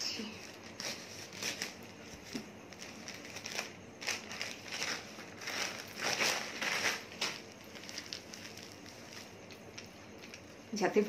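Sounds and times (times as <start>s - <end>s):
plastic mailer crinkling and tearing: 0.2s - 10.6s.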